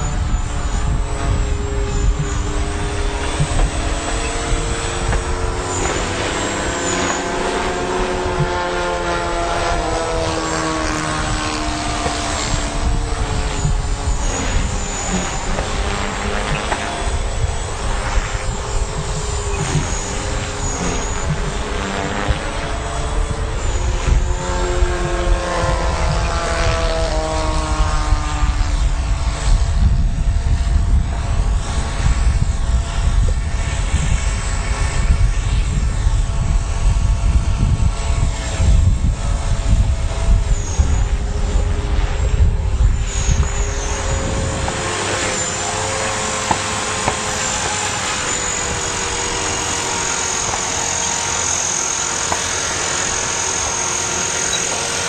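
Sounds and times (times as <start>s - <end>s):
steady low rumble: 0.0s - 53.7s
model helicopter rotor whine: 0.0s - 55.0s.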